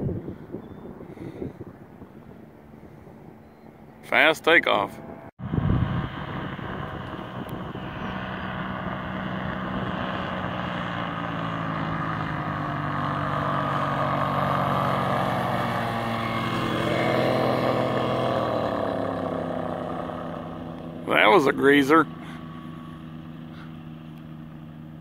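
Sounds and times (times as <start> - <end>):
light aircraft engine and propeller: 0.0 - 25.0.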